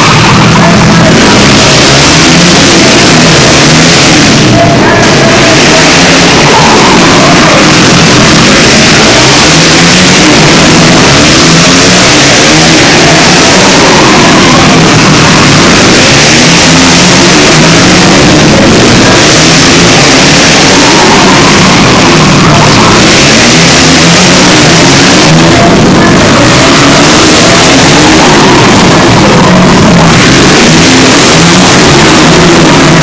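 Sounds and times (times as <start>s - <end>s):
racing motorcycle engines revving: 0.0s - 33.0s.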